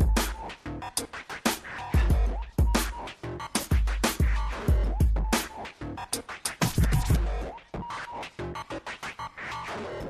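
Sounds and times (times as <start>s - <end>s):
electronic music with bass kicks: 0.0s - 10.0s.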